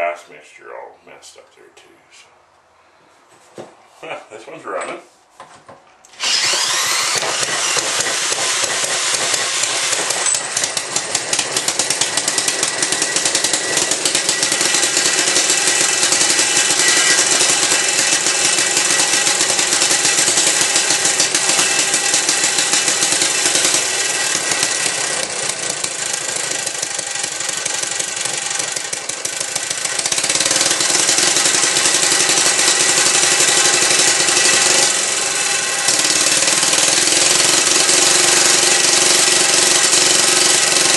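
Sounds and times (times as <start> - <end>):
single-cylinder gas engine running: 6.2 - 40.9.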